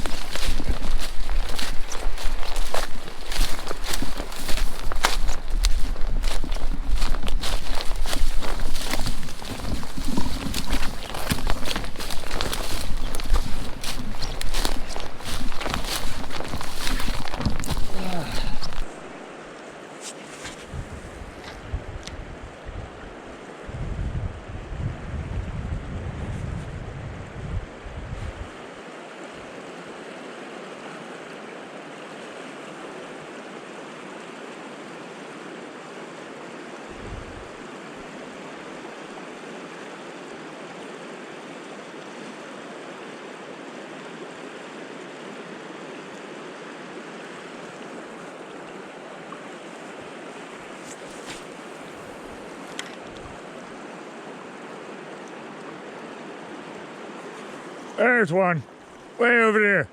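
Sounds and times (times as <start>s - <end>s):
river rushing: 0.0s - 20.0s, 28.6s - 59.2s.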